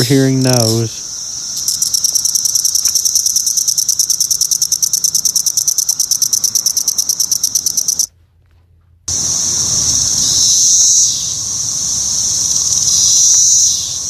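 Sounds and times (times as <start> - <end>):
cicada pulsing buzz: 0.0 - 8.1, 9.1 - 14.0.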